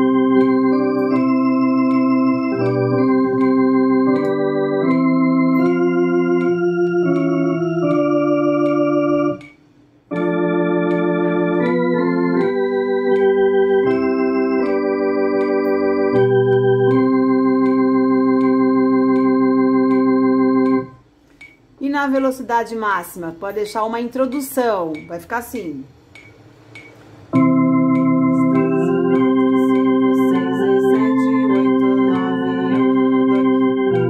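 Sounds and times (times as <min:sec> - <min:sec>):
electronic organ playing a hymn: 0:00.0 - 0:21.0, 0:27.3 - 0:34.0.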